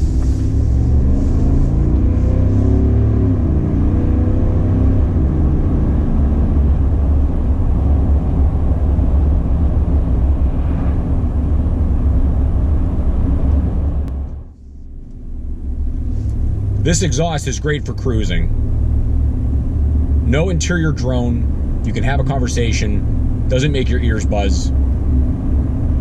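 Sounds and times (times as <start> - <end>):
deep truck exhaust note: 0.0 - 26.0.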